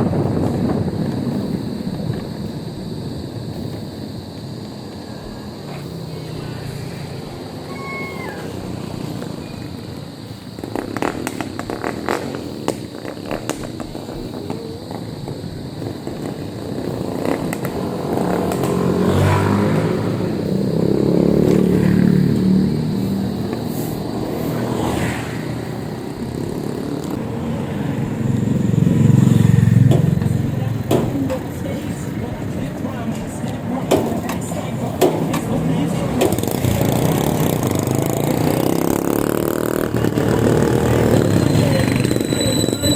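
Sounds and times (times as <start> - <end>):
motorcycle engines passing: 0.0 - 42.9
street traffic: 0.0 - 42.9.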